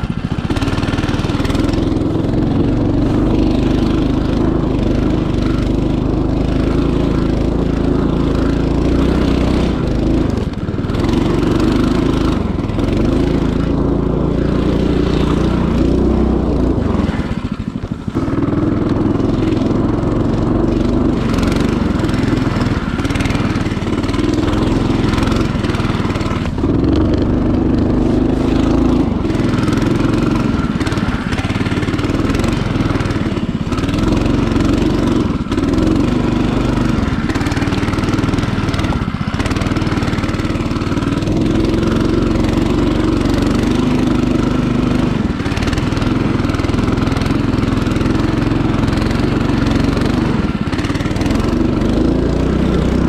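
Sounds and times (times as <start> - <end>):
small petrol engine under load: 0.0 - 53.0.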